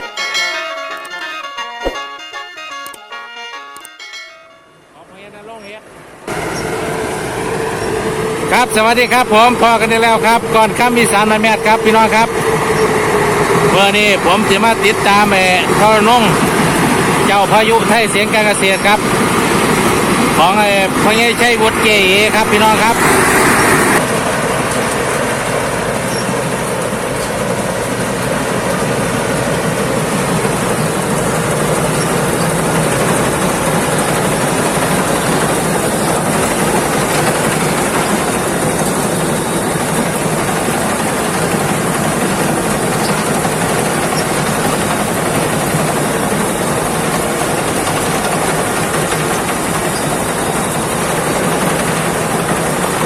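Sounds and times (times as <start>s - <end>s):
combine harvester running: 0.0s - 53.0s.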